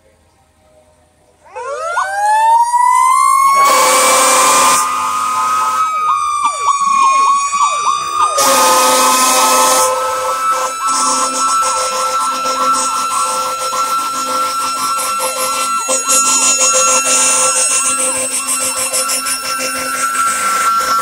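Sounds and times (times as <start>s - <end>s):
fire engine siren wailing: 1.4s - 21.0s
siren falling chirps: 1.4s - 21.0s
long horn blasts: 3.4s - 21.0s.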